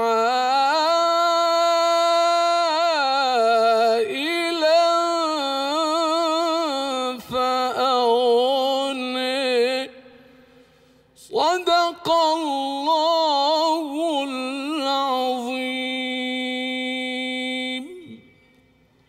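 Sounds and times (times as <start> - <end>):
man chanting: 0.0 - 10.2, 11.2 - 18.3.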